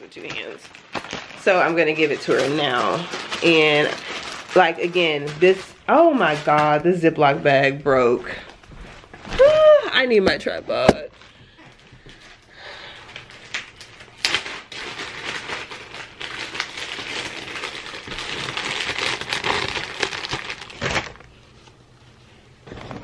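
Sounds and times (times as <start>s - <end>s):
plastic bag crinkling: 0.0s - 7.4s, 10.0s - 21.9s.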